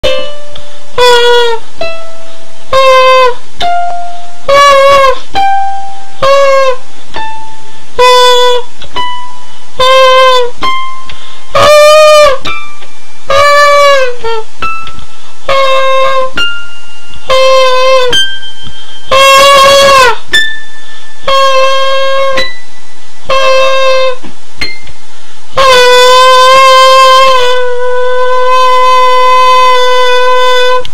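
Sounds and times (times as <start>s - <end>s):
nasal high singing voice: 0.0s - 30.9s
softer notes: 0.0s - 30.9s.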